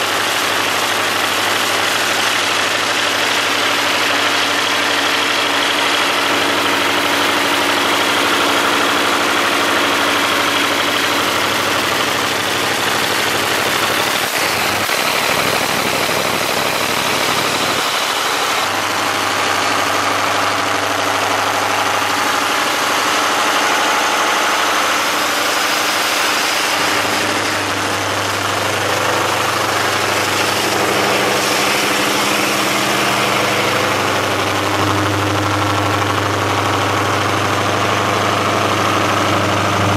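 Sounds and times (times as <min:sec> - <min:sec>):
diesel generator engine drone: 0:00.0 - 0:39.9.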